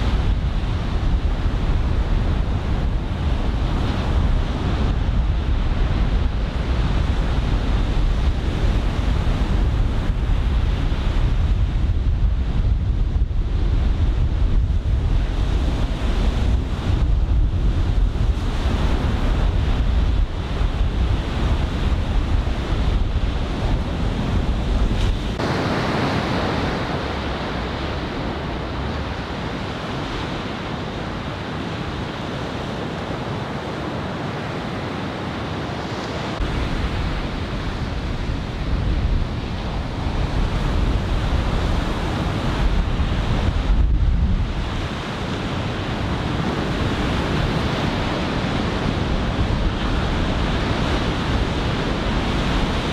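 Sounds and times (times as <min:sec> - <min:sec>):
ocean surf breaking: 0:00.0 - 0:52.9
wind buffeting microphone: 0:00.0 - 0:52.9.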